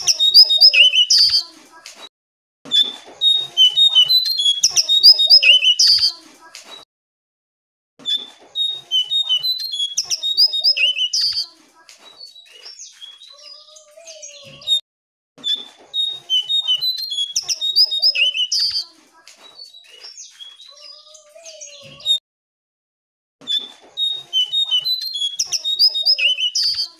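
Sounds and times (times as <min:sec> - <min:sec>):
songbird singing chirps and whistles: 0:00.0 - 0:01.5, 0:02.7 - 0:06.8, 0:08.1 - 0:14.8, 0:15.4 - 0:22.2, 0:23.4 - 0:26.9.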